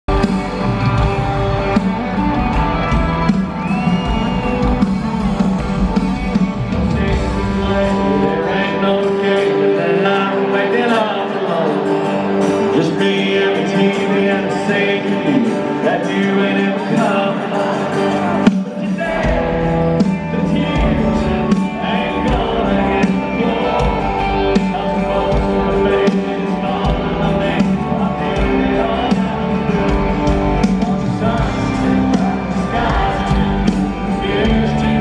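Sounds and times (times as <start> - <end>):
live country-rock band: 0.0 - 35.0
person singing lead: 6.7 - 35.0.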